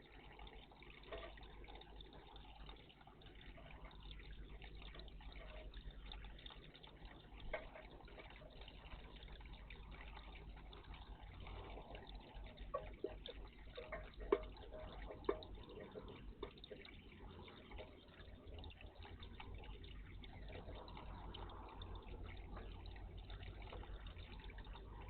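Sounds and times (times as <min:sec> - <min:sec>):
small birds bathing: 0:00.0 - 0:25.0
water splashing in bird bath: 0:00.0 - 0:25.0.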